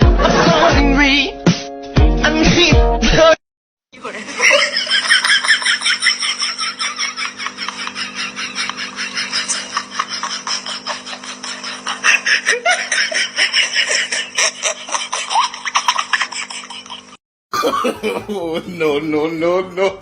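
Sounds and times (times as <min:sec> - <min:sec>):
person laughing: 0:00.2 - 0:00.8, 0:04.0 - 0:20.0.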